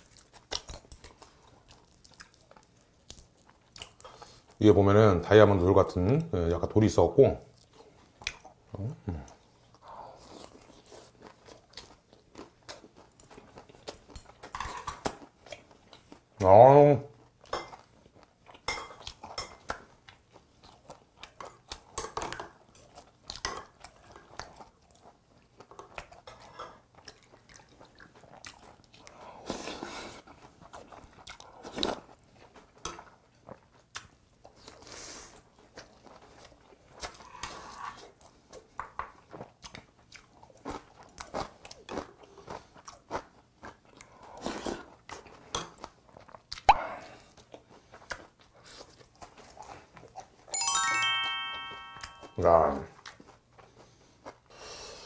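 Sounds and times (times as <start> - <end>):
person chewing and crunching food: 0.0 - 4.7, 7.4 - 50.9, 51.8 - 55.0.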